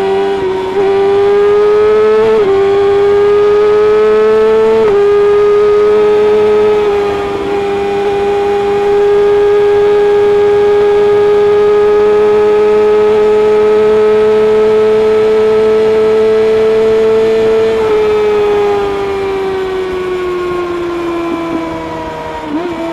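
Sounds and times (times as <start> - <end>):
motorcycle engine at high revs: 0.0 - 22.9.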